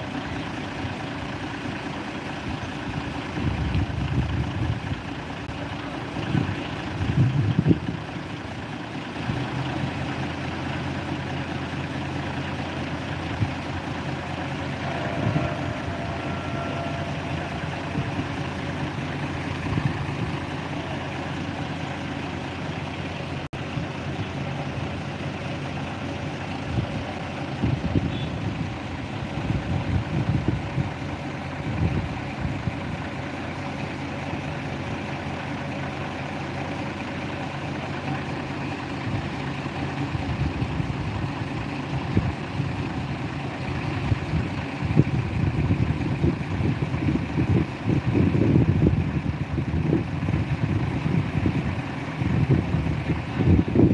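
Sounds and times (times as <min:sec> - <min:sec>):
diesel truck engines droning: 0:00.0 - 0:53.9
louder engine rumbles: 0:00.0 - 0:53.9.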